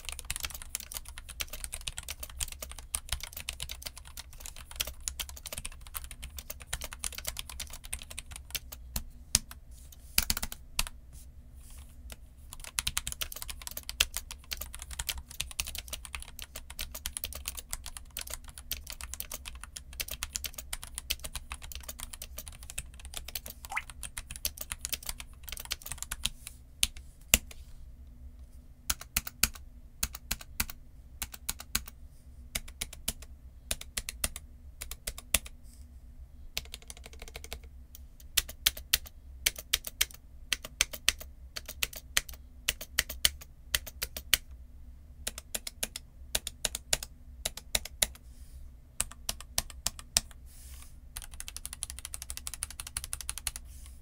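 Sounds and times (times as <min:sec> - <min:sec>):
typing on a keyboard: 0:00.0 - 0:09.6, 0:10.2 - 0:11.0, 0:12.5 - 0:27.5, 0:28.9 - 0:35.5, 0:36.6 - 0:44.5, 0:45.2 - 0:48.2, 0:49.0 - 0:50.4, 0:51.2 - 0:53.6.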